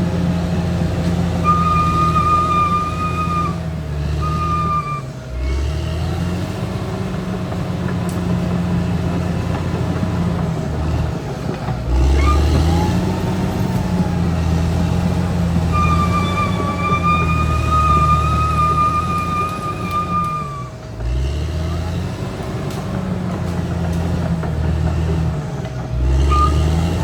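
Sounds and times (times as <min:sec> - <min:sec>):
bulldozer diesel engine under load: 0:00.0 - 0:27.0.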